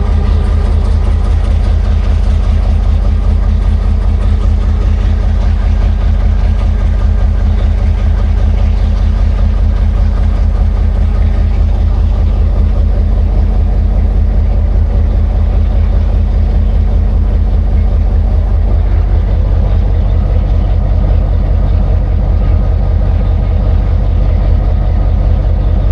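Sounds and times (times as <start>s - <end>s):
vehicle engine idling: 0.0s - 25.9s.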